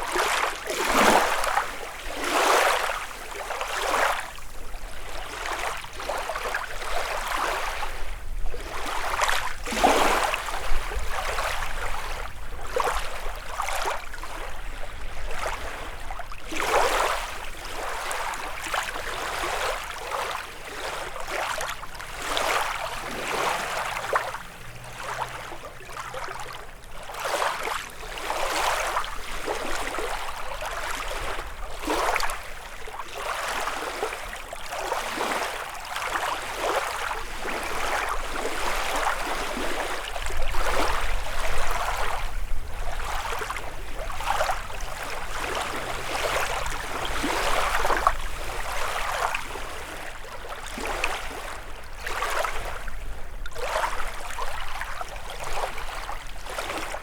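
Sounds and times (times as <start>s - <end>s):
waves lapping on shore: 0.0s - 57.0s.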